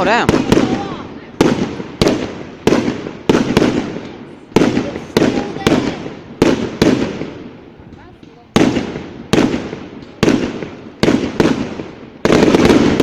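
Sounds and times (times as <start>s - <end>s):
fireworks bursting with bangs: 0.0s - 13.0s.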